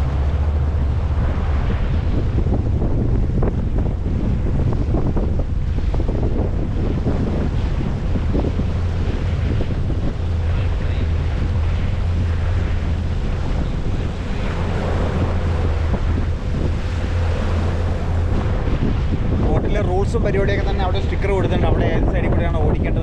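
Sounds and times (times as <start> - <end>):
motorboat engine drone: 0.0 - 23.0
water rushing past hull: 0.0 - 23.0
wind buffeting microphone: 0.0 - 23.0.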